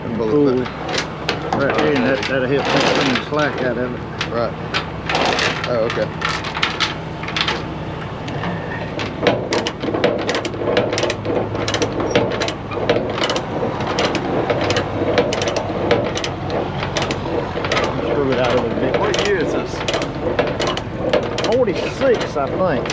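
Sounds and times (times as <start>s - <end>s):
steady low hum: 0.0s - 22.9s
chain and ratchet clanking: 0.2s - 22.9s.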